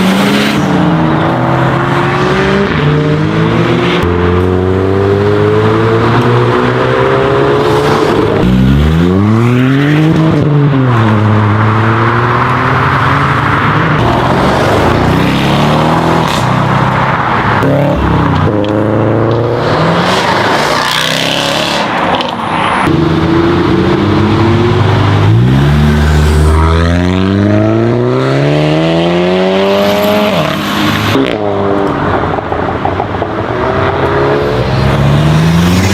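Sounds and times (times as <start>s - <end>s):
car engines revving: 0.0s - 35.9s.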